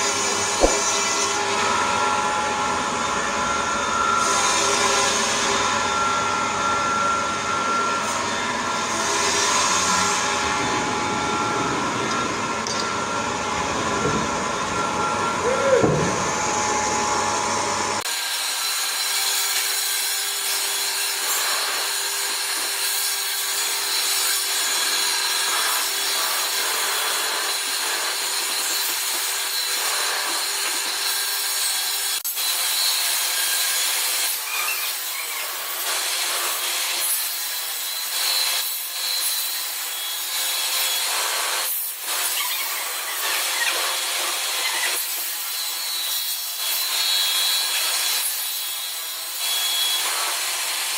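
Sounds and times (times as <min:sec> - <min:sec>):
saw cutting through timber: 0:00.0 - 0:50.9.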